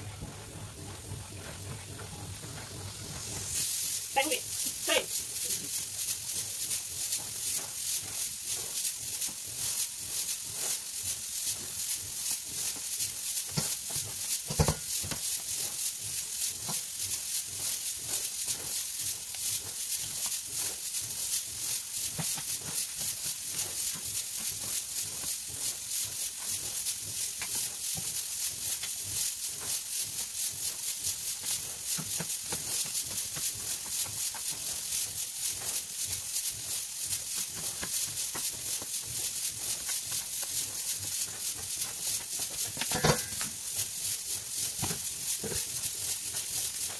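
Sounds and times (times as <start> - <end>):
pressure cooker hissing: 0.0 - 46.9.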